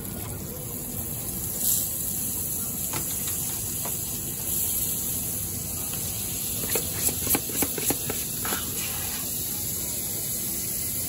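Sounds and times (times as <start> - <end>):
batter sizzling on griddle: 0.0 - 11.0.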